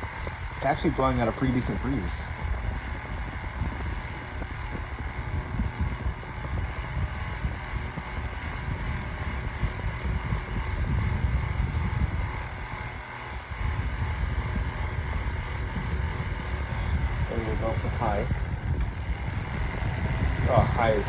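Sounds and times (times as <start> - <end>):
table fan running: 0.0 - 21.0.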